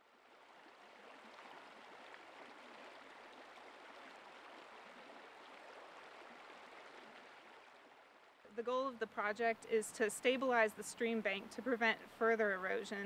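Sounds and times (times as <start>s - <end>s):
creek water rippling over rocks: 0.0s - 13.0s.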